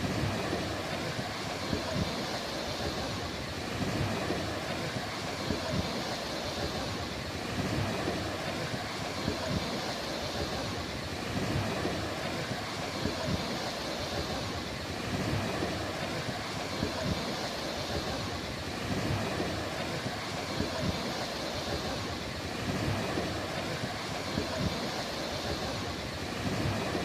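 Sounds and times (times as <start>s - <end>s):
waves washing onto beach: 0.0s - 27.0s.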